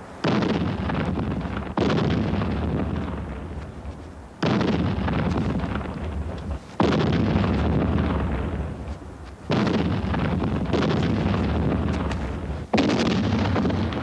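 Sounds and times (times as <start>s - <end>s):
distant artillery explosions: 0.0s - 14.0s.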